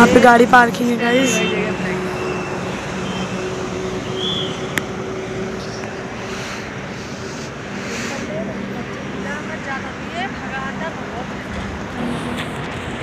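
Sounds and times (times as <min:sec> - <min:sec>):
roadside traffic noise: 0:00.0 - 0:13.0.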